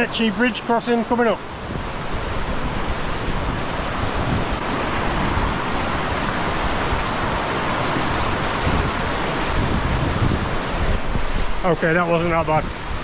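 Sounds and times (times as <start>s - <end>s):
waterfall roaring: 0.0s - 13.0s
wind buffeting microphone: 0.0s - 13.0s.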